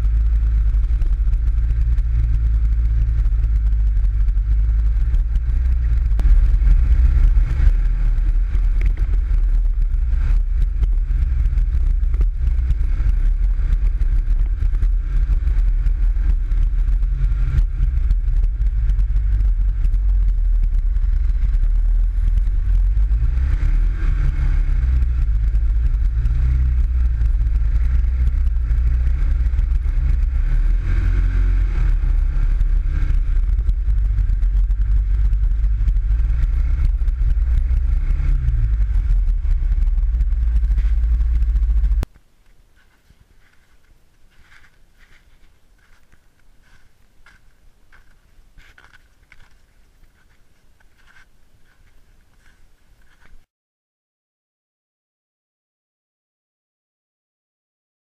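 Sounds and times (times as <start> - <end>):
buggy engine droning: 0.0 - 42.2, 42.8 - 53.5.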